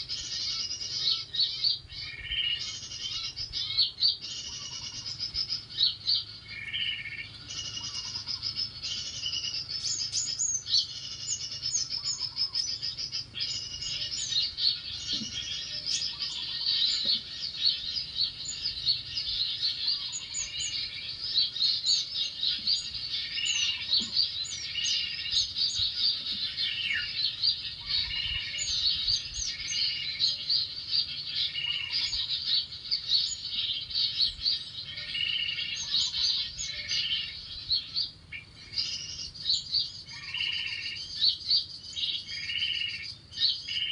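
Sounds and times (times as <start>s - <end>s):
chorus of small birds chirping: 0.0s - 43.9s
lower bird call: 0.0s - 43.9s.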